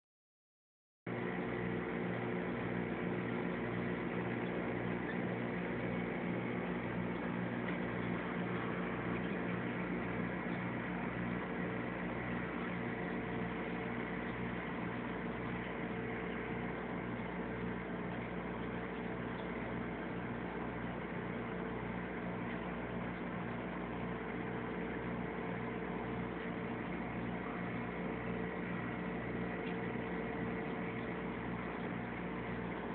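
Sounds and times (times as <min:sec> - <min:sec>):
aquarium pump humming: 0:01.1 - 0:32.9.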